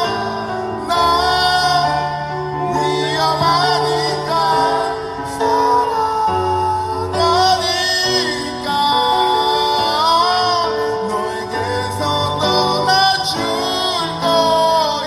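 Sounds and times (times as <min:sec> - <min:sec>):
instrumental backing with held bass: 0:00.0 - 0:15.0
person singing a gliding melody: 0:00.0 - 0:15.0.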